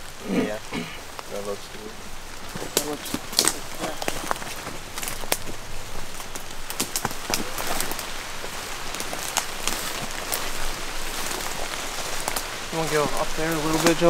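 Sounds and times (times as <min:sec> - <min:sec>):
footsteps in wet undergrowth: 0:00.0 - 0:14.0
rustling of leaves and brush: 0:00.0 - 0:14.0
sharp ticks and snaps: 0:00.0 - 0:14.0.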